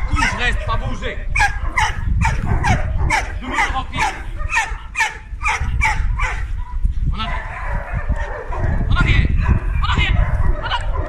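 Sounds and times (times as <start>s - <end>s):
dog barking: 0.0s - 11.0s
rough dog sound: 0.0s - 11.0s.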